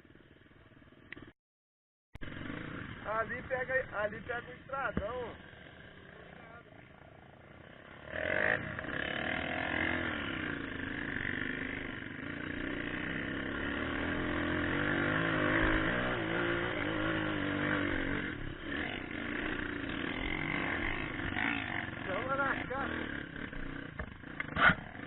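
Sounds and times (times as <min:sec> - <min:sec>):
motorcycle engine revving: 0:02.2 - 0:25.0.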